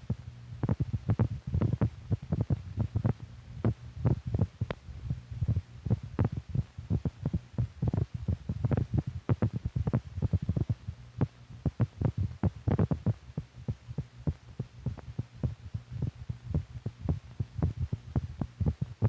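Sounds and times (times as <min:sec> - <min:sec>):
heartbeat thumps and clicks: 0:00.0 - 0:19.0
steady low hum: 0:00.0 - 0:19.0.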